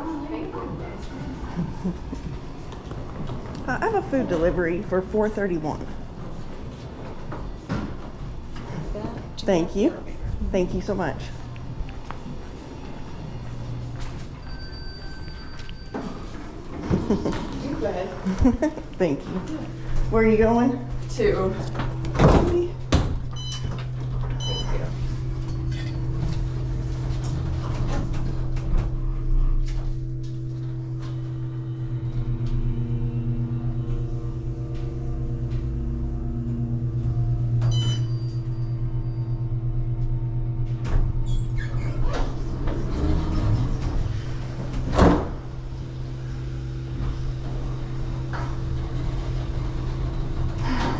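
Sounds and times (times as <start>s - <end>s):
elevator doors sliding: 0.0s - 50.9s
elevator hum: 0.0s - 50.9s.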